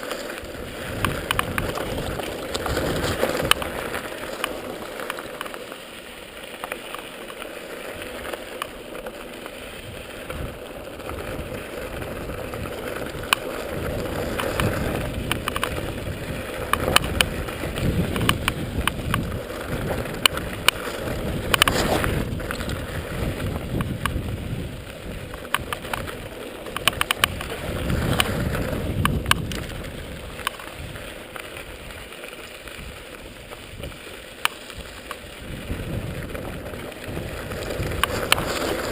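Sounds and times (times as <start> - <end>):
bike rattling clicks and knocks: 0.0 - 5.8, 9.8 - 38.9
bike tyres rushing on dirt: 0.0 - 38.9.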